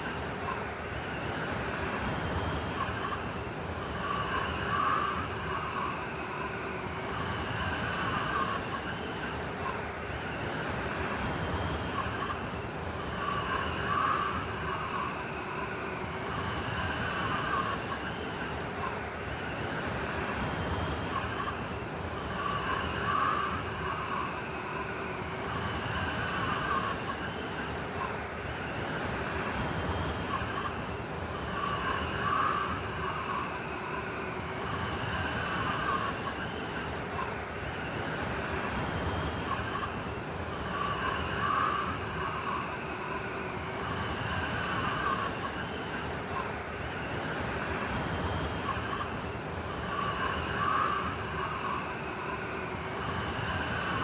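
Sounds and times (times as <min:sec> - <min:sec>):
howling blizzard wind: 0:00.0 - 0:54.0.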